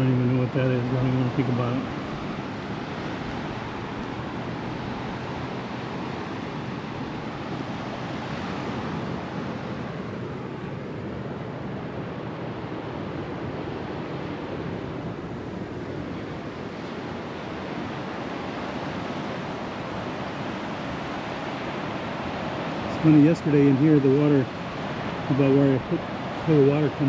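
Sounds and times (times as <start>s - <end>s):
surf breaking on beach: 0.0s - 27.0s
wind buffeting microphone: 0.0s - 27.0s.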